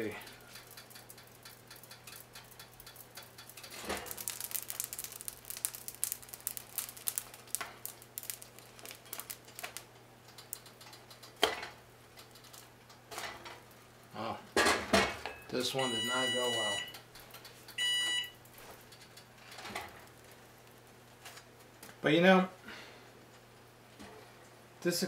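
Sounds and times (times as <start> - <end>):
bread sizzling on hot iron: 0.0 - 14.0, 15.6 - 21.8.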